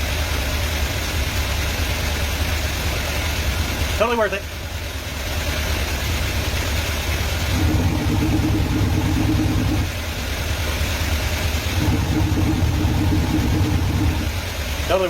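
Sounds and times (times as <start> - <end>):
car engine exhaust rumble: 0.0 - 15.0.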